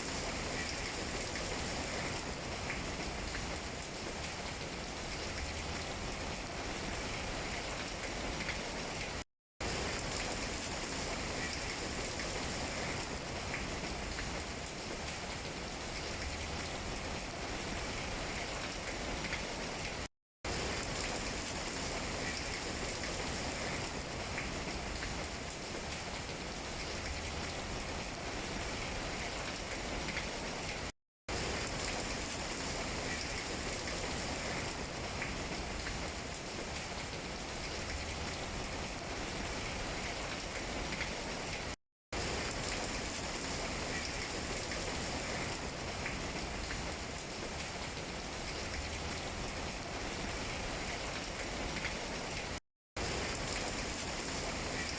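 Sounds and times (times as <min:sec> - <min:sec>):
rain pattering on leaves: 0:00.0 - 0:54.9.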